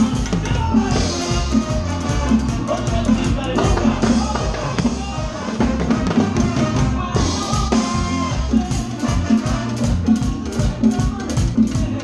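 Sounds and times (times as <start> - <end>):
drum kit: 0.0 - 12.0
latin dance band playing: 0.0 - 12.0.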